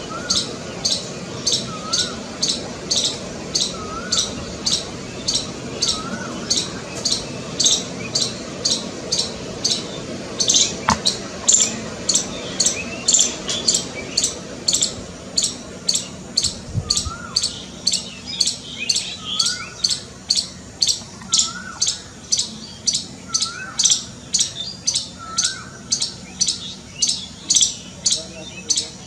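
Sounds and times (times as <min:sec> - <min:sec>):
faint rising and falling call: 0:00.0 - 0:29.0
squirrel alarm chirps: 0:00.0 - 0:29.0.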